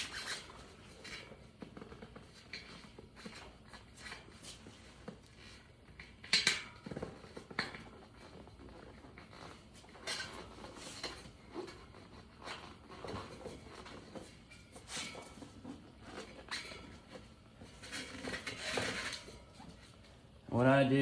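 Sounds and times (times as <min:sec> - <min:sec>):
rubbing and knocking of tyre and rim: 0:00.0 - 0:20.2.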